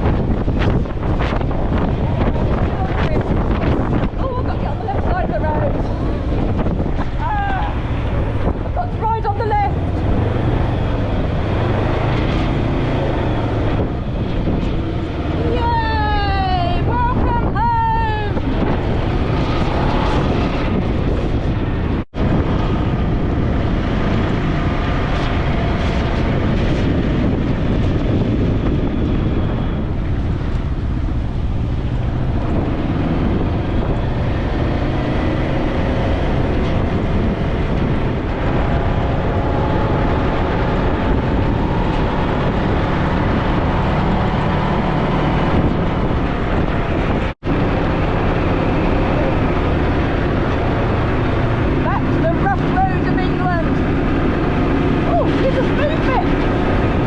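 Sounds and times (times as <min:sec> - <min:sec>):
wind noise on microphone: 0:00.0 - 0:57.0.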